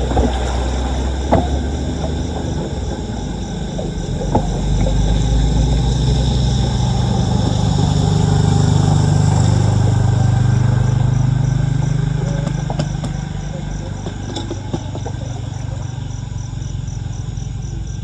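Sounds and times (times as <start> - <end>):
vehicle engine passing slowly: 0.0 - 18.0.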